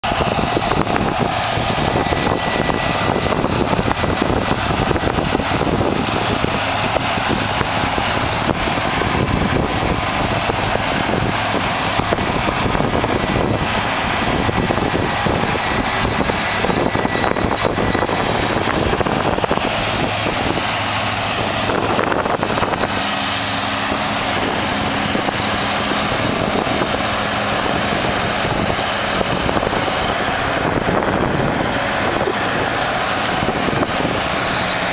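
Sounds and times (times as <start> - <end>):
combine harvester engine drone: 0.0 - 34.9
threshing machinery whir: 0.0 - 34.9.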